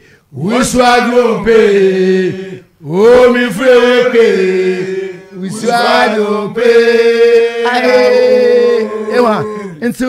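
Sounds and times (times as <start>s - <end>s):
men chanting in held notes: 0.3s - 10.0s.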